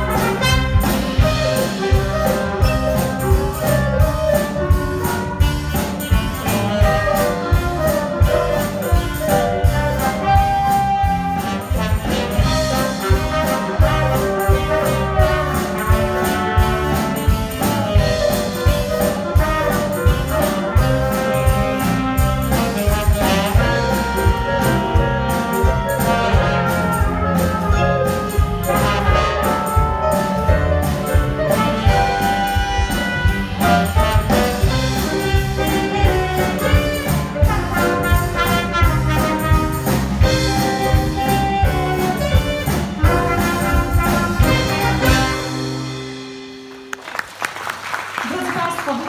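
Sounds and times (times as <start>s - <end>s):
saxophone: 0.0s - 46.4s
steady drum beat: 0.0s - 46.9s
bass guitar: 0.0s - 47.0s
trumpet: 0.0s - 47.0s.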